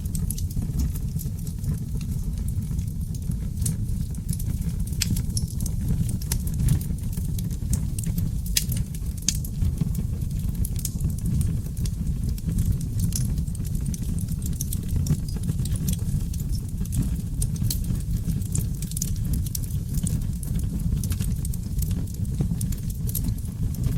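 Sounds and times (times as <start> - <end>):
fire crackling and popping: 0.0 - 23.9
low rumble of flame: 0.0 - 23.9.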